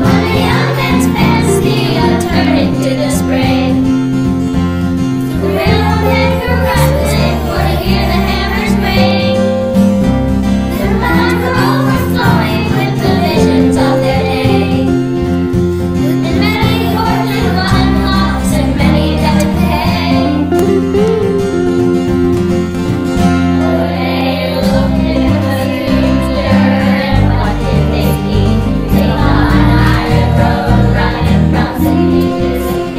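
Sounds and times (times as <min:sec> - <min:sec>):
children's choir singing: 0:00.0 - 0:04.1, 0:05.2 - 0:09.7, 0:10.7 - 0:15.2, 0:16.0 - 0:21.1, 0:23.4 - 0:32.9
instrumental accompaniment: 0:00.0 - 0:32.9.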